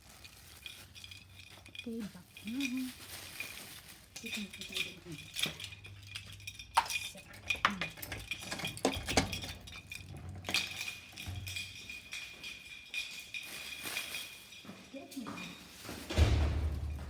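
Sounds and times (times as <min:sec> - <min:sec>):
small hard objects clinking: 0:00.0 - 0:17.0.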